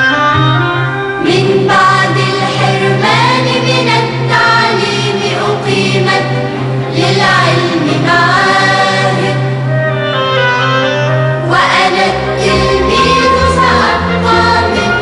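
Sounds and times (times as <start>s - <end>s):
held bass notes: 0.0s - 15.0s
choir singing an anthem: 1.2s - 9.8s, 11.4s - 15.0s.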